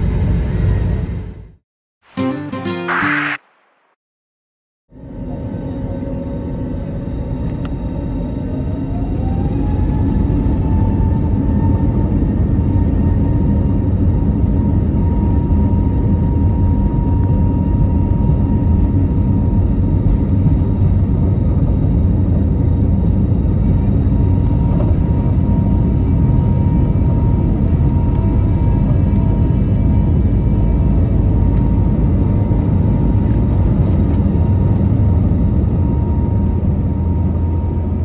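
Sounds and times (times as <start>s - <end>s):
jet engine whine: 0.0s - 1.6s, 4.9s - 38.0s.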